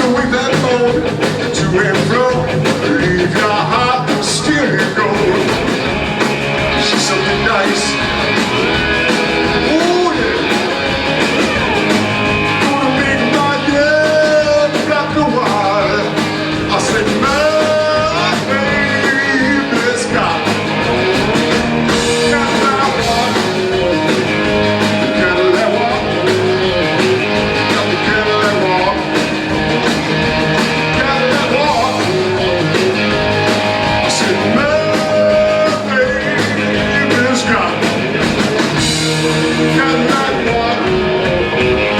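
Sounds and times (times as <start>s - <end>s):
guitar lead with bending notes: 0.0s - 41.9s
rock band playing: 0.0s - 41.9s
steady drum beat: 0.0s - 41.9s.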